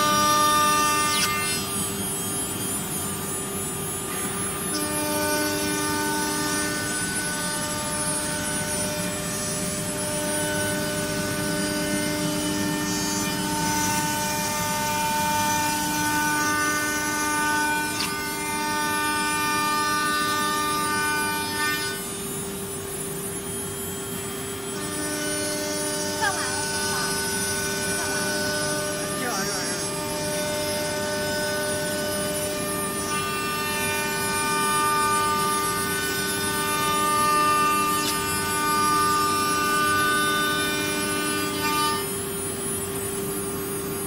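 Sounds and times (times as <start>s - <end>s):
motor tones and high hiss: 0.0s - 44.0s
router spindle whine: 0.0s - 44.0s.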